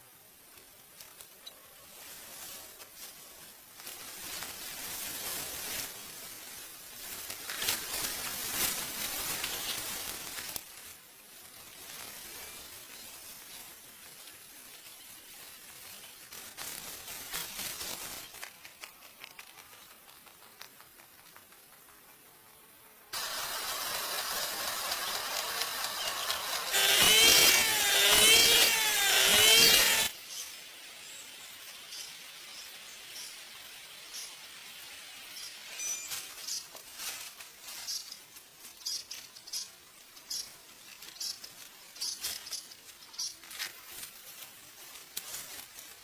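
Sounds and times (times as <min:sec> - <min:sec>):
dry straw rustling: 0:00.4 - 0:20.5, 0:23.1 - 0:30.9, 0:31.6 - 0:46.0.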